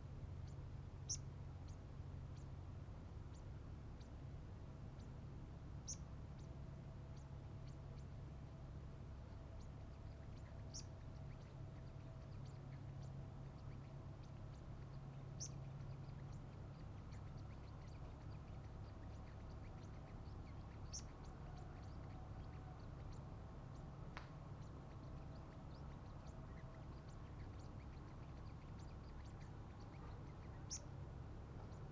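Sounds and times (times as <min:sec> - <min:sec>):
bird chirping: 0:00.4 - 0:02.6, 0:05.8 - 0:08.5, 0:09.2 - 0:31.9.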